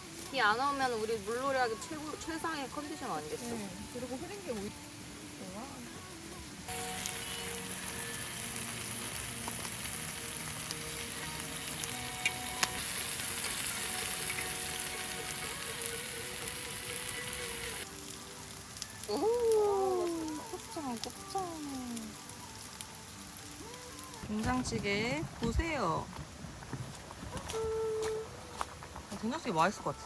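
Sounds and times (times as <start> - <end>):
meat sizzling in a pan: 0.0 - 24.3.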